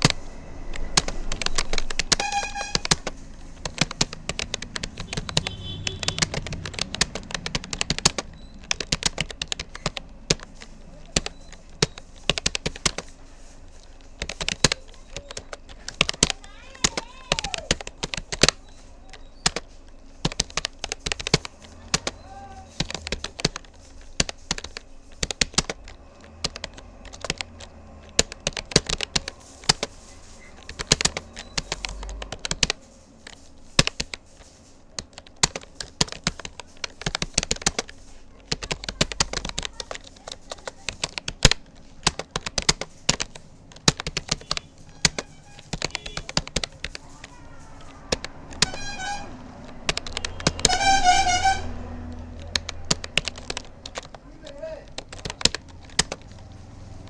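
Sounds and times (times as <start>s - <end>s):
computer keyboard typing: 0.0s - 57.0s.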